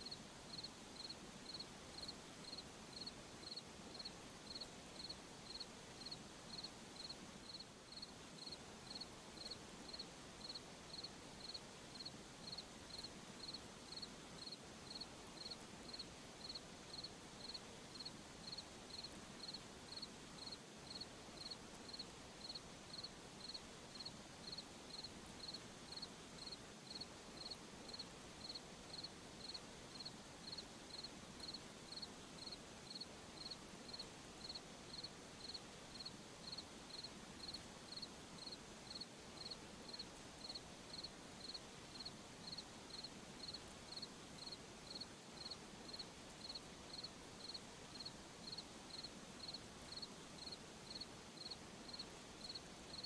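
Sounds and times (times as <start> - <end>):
cricket chirping: 0.0 - 53.0
faint night background hiss: 0.0 - 53.0.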